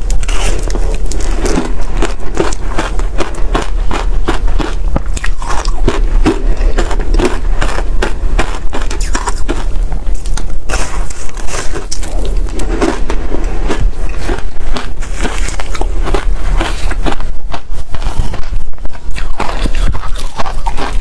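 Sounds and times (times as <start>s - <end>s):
ice being chewed crunching: 0.0s - 21.0s.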